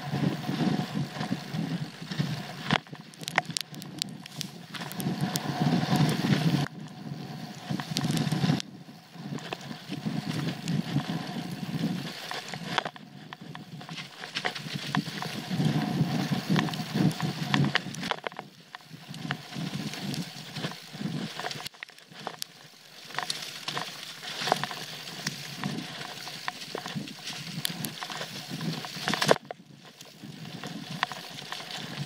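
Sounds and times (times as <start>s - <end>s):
bike tyres rumbling over dirt: 0.0s - 32.0s.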